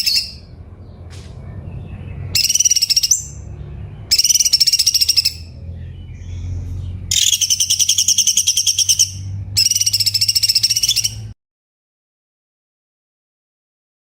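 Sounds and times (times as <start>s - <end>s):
bird singing rapid trills: 0.0s - 11.4s.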